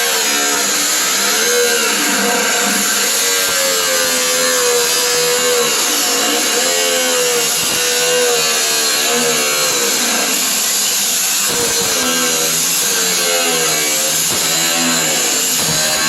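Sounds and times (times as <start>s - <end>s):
angle grinder cutting sheet steel: 0.0s - 16.0s.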